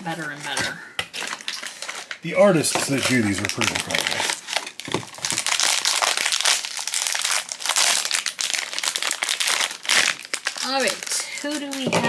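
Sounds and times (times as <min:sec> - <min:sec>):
foil bag crinkling: 0:00.0 - 0:12.0.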